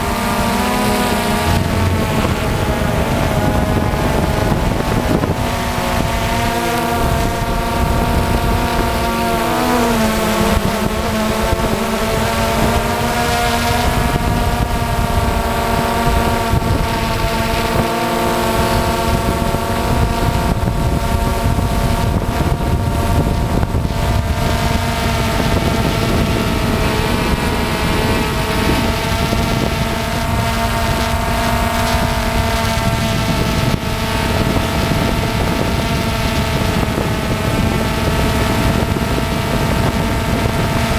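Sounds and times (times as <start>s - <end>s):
drone propellers whining: 0.0s - 40.9s
wind rushing over microphone: 0.0s - 40.9s.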